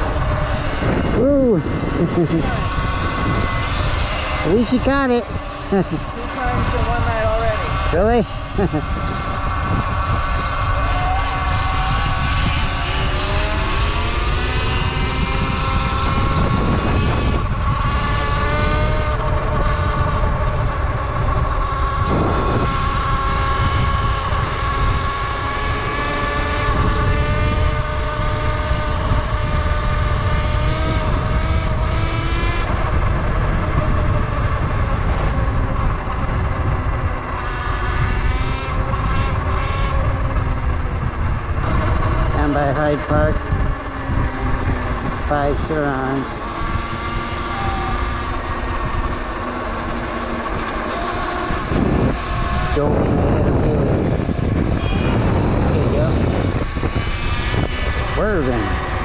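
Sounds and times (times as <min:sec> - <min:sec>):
electric motorbike motor whine: 0:00.0 - 0:59.0
wind rumble on microphone: 0:00.0 - 0:59.0.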